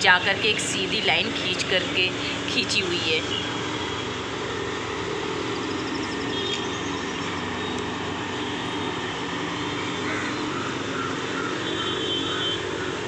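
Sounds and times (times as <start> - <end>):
city traffic hum: 0.0 - 13.0.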